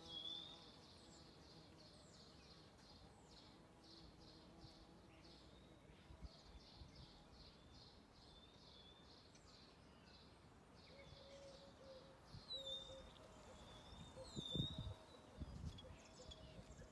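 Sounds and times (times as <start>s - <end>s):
faint birdsong chirps: 0.0s - 16.9s.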